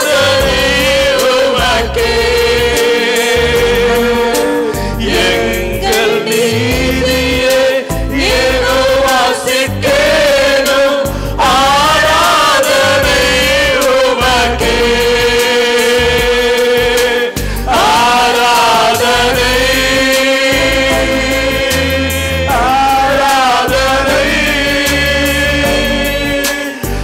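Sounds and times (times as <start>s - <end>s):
instrumental backing with bass: 0.0s - 27.0s
man singing into a microphone: 0.0s - 27.0s.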